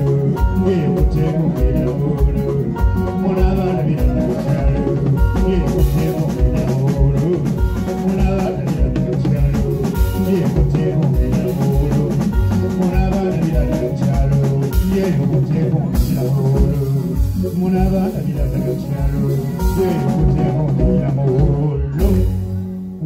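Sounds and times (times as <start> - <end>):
drum kit beat: 0.0 - 23.0
live band music: 0.0 - 23.0.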